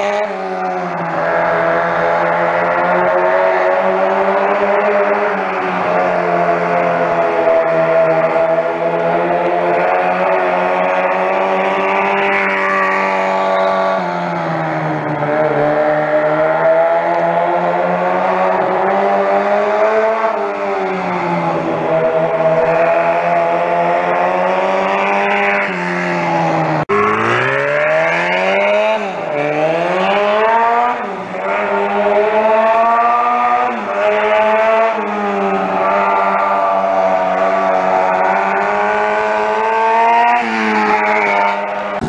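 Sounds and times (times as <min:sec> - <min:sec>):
minibike engine revving: 0:00.0 - 0:42.0.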